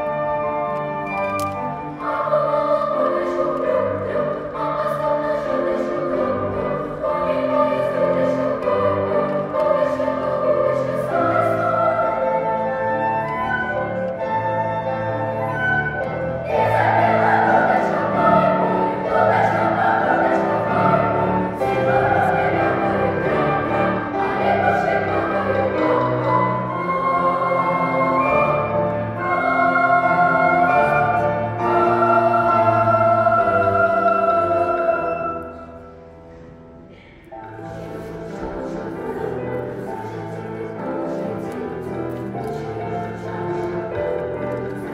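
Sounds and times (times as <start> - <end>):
children's choir singing: 0.0 - 44.9
low instrumental accompaniment: 0.0 - 44.9.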